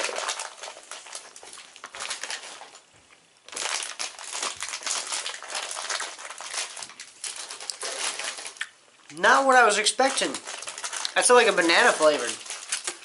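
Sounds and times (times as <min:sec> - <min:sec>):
dense crinkling crackling: 0:00.0 - 0:13.0.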